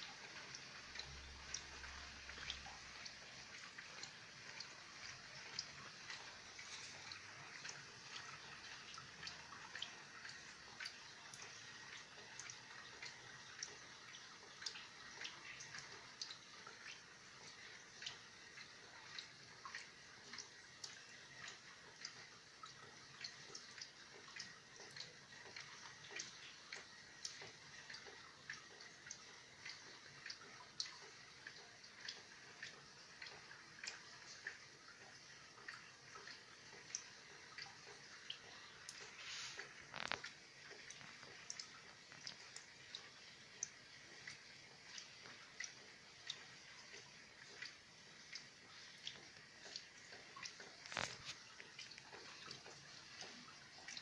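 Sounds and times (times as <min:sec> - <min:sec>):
drops ticking and dripping: 0:00.0 - 0:54.0
light rain hiss: 0:00.0 - 0:54.0.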